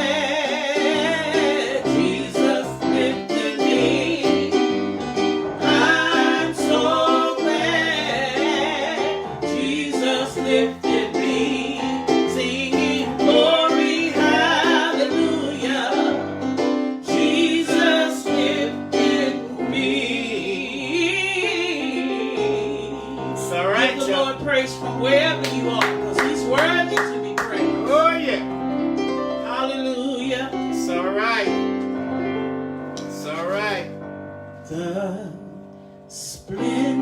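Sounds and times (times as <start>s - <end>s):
piano accompaniment: 0.0s - 37.0s.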